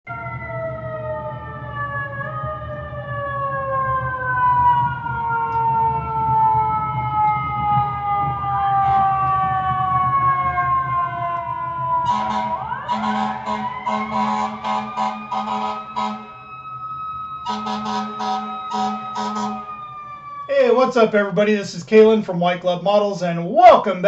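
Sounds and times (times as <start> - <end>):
fire truck siren wailing: 0.1 - 21.5.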